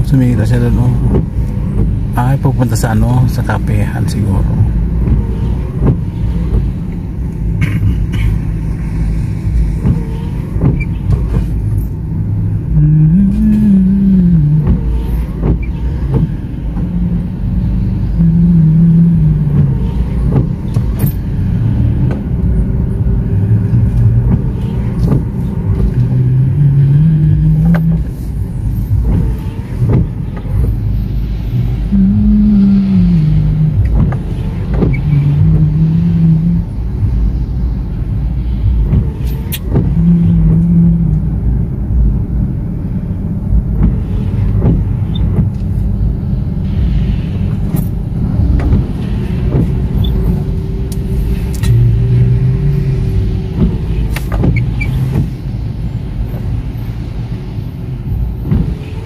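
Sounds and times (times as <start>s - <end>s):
car engine and road noise: 0.0s - 59.0s
low hum rising and falling: 0.0s - 59.0s
windscreen wipers sweeping: 0.0s - 59.0s.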